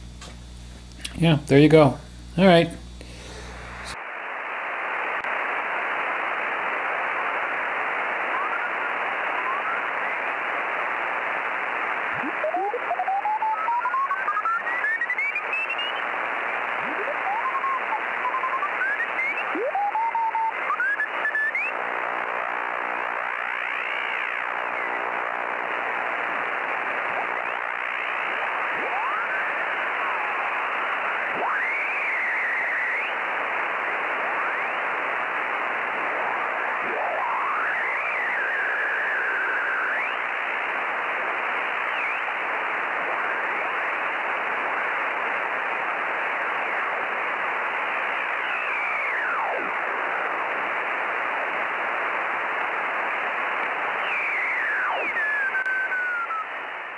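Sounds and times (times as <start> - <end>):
radio static hiss: 0.0 - 56.9.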